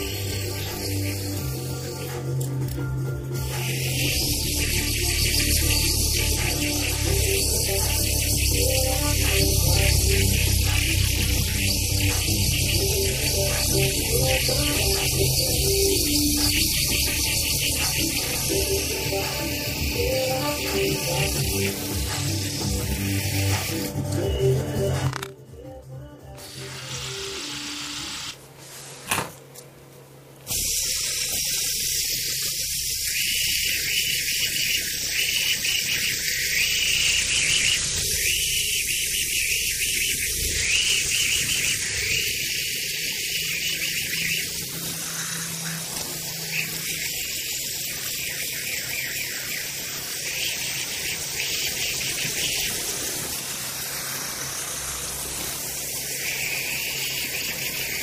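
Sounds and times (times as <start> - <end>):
finger spinner whirring: 3.5 - 23.9, 31.6 - 58.0.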